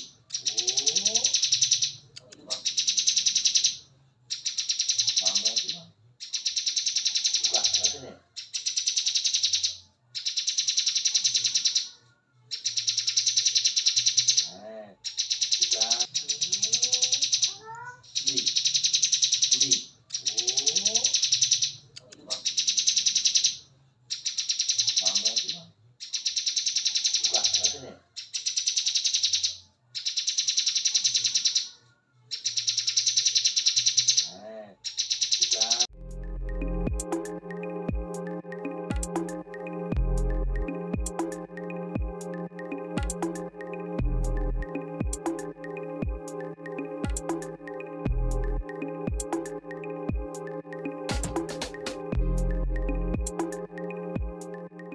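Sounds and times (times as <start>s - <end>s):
bird singing rapid trill: 0.0s - 54.9s.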